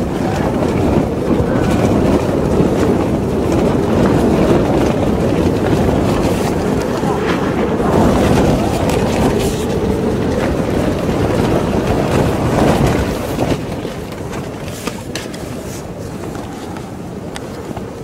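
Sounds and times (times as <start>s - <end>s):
strong wind: 0.0s - 18.0s
tent fabric flapping: 0.0s - 18.0s.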